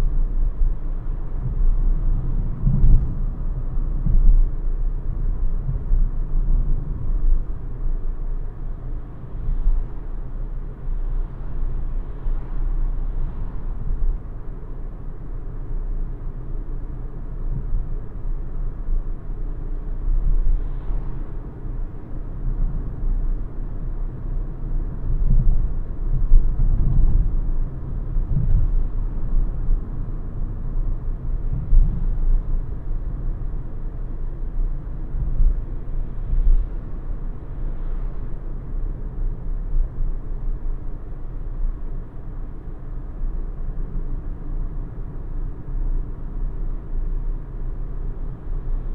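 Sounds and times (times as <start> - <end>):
road and tyre rumble: 0.0 - 48.9.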